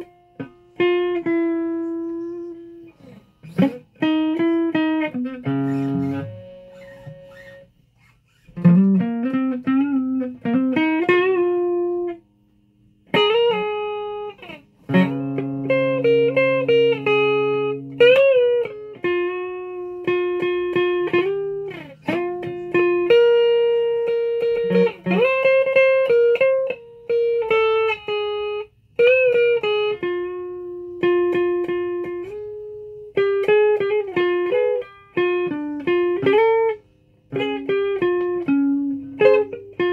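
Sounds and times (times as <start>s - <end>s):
guitar picked notes: 0.0s - 39.9s.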